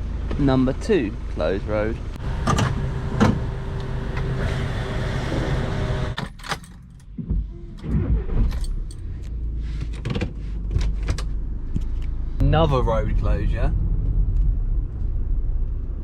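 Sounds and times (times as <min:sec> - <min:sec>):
engine and tyre rumble in car: 0:00.0 - 0:16.0.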